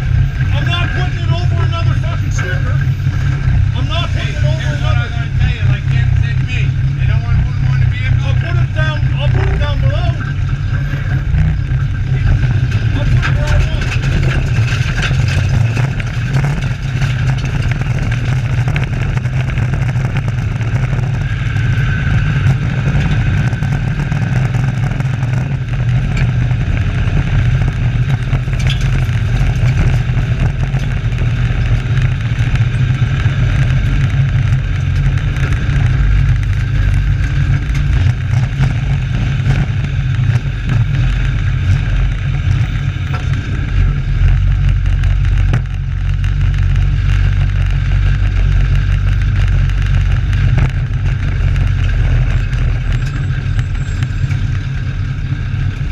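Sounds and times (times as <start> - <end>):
race truck engines droning: 0.0 - 55.9.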